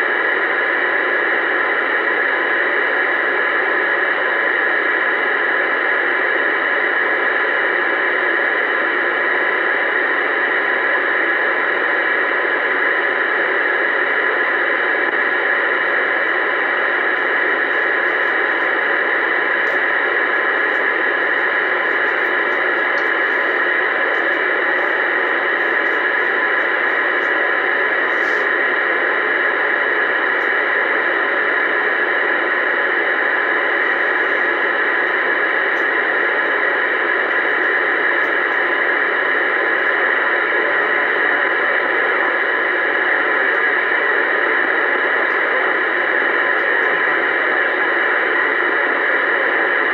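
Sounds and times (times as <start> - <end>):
radio static hiss: 0.0 - 49.9.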